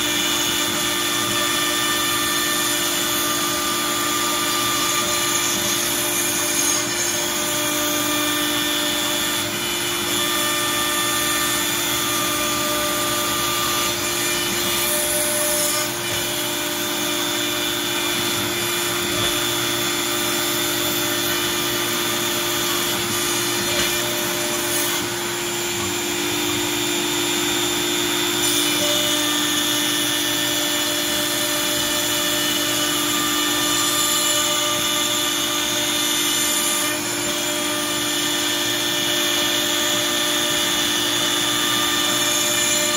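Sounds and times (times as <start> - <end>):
router spindle whine: 0.0 - 42.9.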